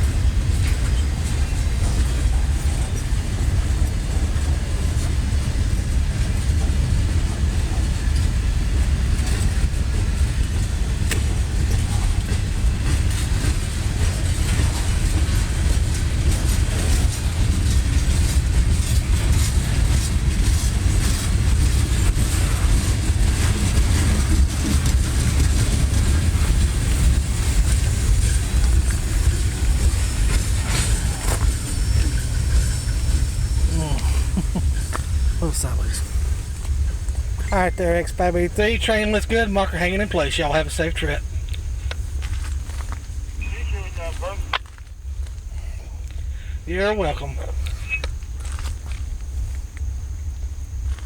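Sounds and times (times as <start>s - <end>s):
steel wheels rumbling on rail: 0.0s - 51.0s
train clicks and clanks: 0.0s - 51.0s.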